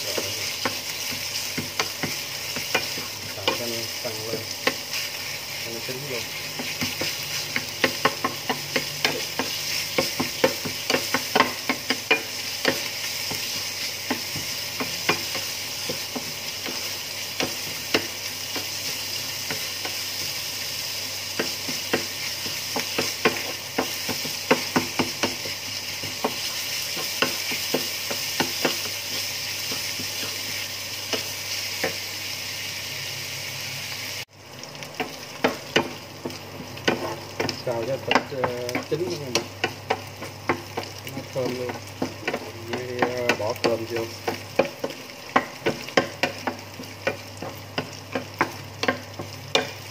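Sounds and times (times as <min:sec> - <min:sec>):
meat sizzling in a frying pan: 0:00.0 - 0:49.9.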